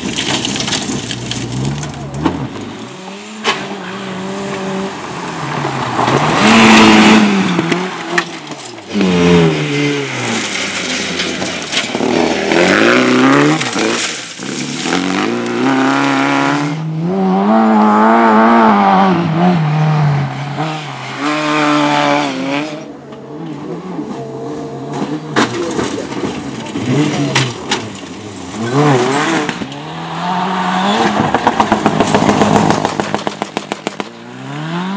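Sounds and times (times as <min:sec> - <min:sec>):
rally car engine driven hard: 0:00.0 - 0:34.9
rushing tyre or exhaust noise: 0:00.0 - 0:34.9.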